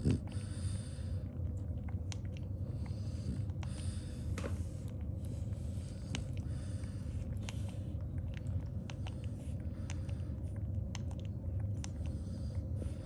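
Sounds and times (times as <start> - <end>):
low steady rumble: 0.0 - 13.0
puppies suckling wet smacks: 1.2 - 3.9, 4.8 - 12.7.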